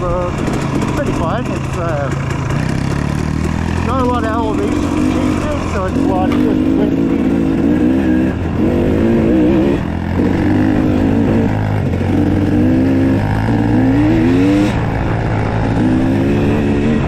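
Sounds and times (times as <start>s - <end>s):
dirt bike engine revving: 0.0s - 17.0s
low rumble: 0.0s - 17.0s.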